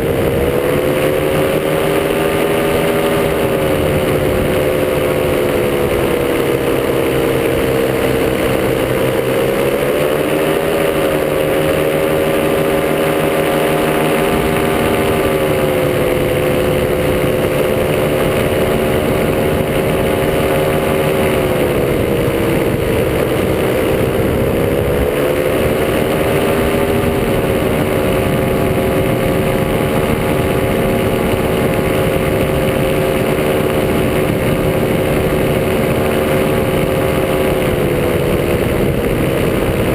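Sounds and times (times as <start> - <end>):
paramotor engine running: 0.0 - 39.9
wind noise rushing: 0.0 - 39.9.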